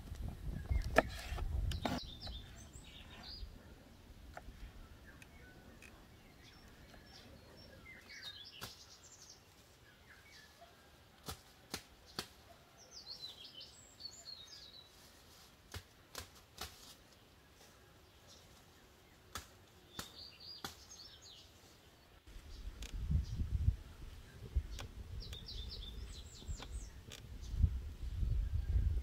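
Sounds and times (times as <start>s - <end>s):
birds chirping: 0.3s - 11.0s, 12.0s - 15.2s, 17.0s - 29.0s.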